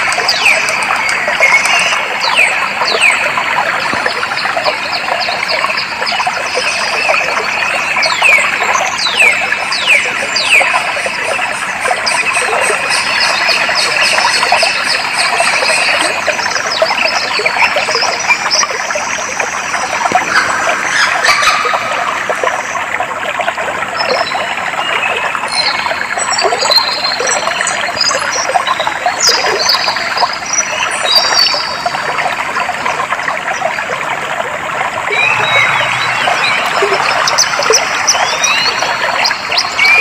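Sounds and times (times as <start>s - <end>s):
birds singing: 0.0s - 22.4s, 24.0s - 32.4s, 35.0s - 40.0s
water trickling over stones: 0.0s - 40.0s.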